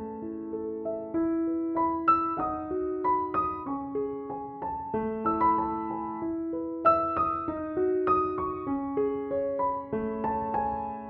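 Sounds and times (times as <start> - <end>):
calm piano melody: 0.0 - 11.0.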